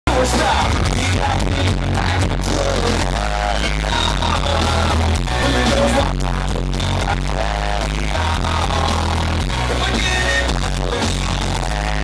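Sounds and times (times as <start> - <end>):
country band playing loud: 0.1 - 12.0
man singing into a microphone: 0.1 - 12.0.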